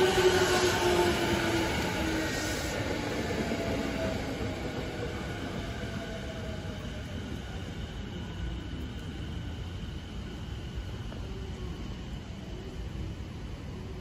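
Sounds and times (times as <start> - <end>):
electric train rolling on track: 0.0 - 14.0.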